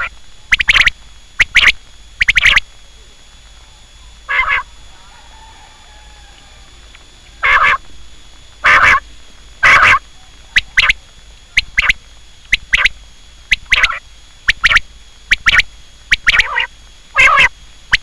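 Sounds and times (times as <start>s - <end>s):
quail calling: 0.0s - 2.6s, 4.0s - 7.9s, 8.6s - 9.0s, 9.6s - 18.0s.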